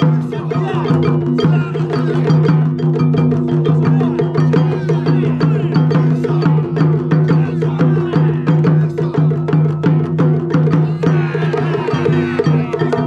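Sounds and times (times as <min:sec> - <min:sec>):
drum ensemble fast strikes: 0:00.0 - 0:13.0.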